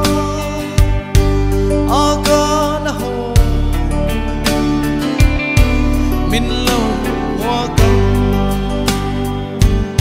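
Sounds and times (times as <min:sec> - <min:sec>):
song with held low notes: 0:00.0 - 0:10.0.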